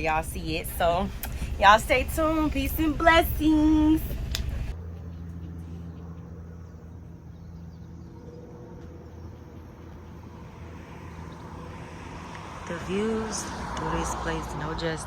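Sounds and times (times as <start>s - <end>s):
vehicle drone: 0.0s - 15.0s.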